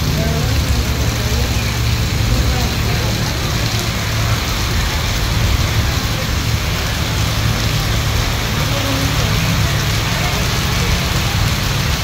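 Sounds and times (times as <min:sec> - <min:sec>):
heavy rain on pavement: 0:00.0 - 0:12.0
low rumble: 0:00.0 - 0:12.0.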